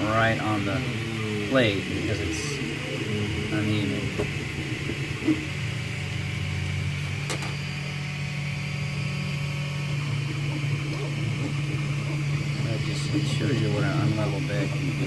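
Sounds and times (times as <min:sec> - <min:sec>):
fan hum: 0:00.0 - 0:15.0
stepper motors whining: 0:00.0 - 0:15.0.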